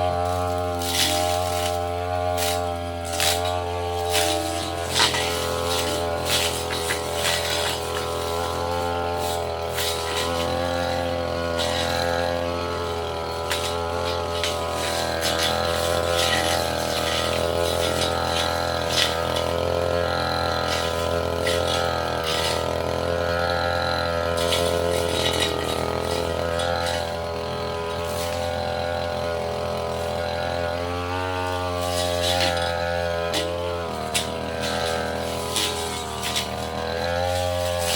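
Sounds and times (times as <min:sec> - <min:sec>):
blade hitting undergrowth: 0:00.0 - 0:37.9
brush cutter engine running: 0:00.0 - 0:37.9.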